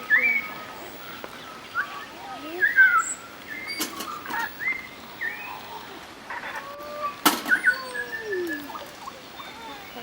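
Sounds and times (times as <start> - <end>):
forest birds whistling: 0.0 - 6.0, 6.6 - 10.0.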